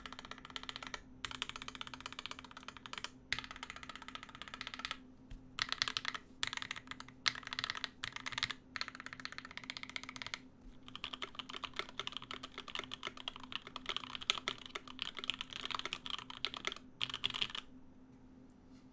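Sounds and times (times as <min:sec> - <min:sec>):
fast typing on mechanical keyboard: 0:00.0 - 0:05.0, 0:05.6 - 0:17.7.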